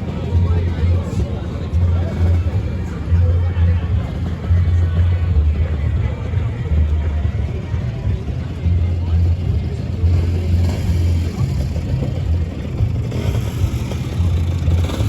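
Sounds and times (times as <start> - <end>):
scooter engines revving: 0.0 - 15.0.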